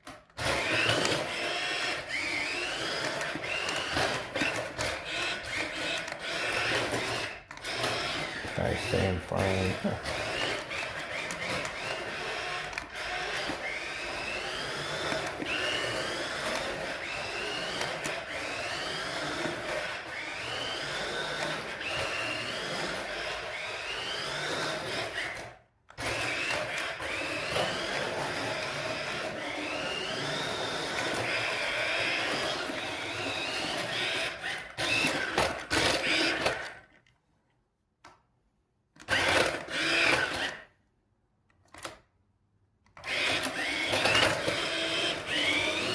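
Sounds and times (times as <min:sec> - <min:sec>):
toy car electric motor whirring: 0:00.0 - 0:37.1, 0:39.0 - 0:40.8, 0:42.8 - 0:45.9.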